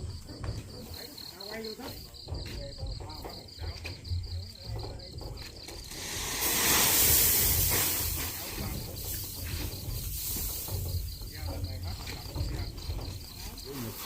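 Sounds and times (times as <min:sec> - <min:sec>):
insect chirping in pulses: 0:00.0 - 0:14.0.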